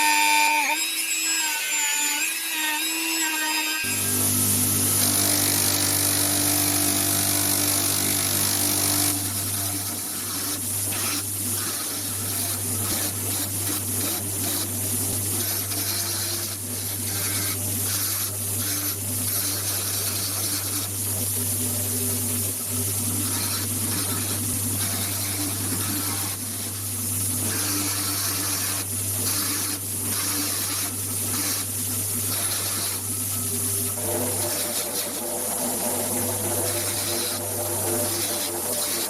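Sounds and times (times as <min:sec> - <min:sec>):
electric power tool humming: 0:00.0 - 0:20.9, 0:23.0 - 0:39.0.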